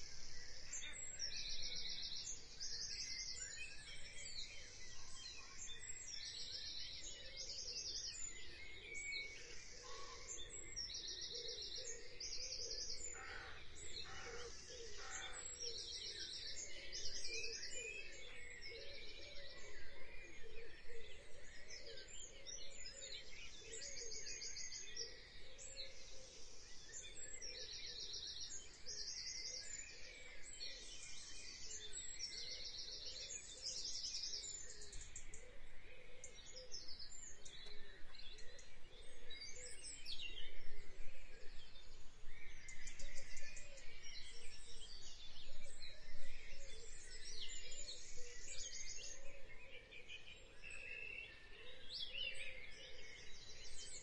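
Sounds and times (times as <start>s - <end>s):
birds chirping with fast trills: 0.0s - 54.0s.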